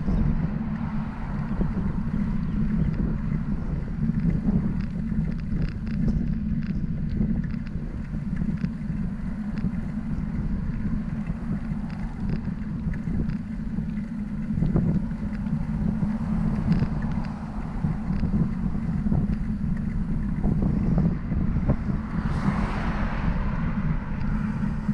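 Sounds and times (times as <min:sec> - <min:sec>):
light clicks and rattles: 0:00.0 - 0:22.1
wind rumble on microphone: 0:00.0 - 0:24.9.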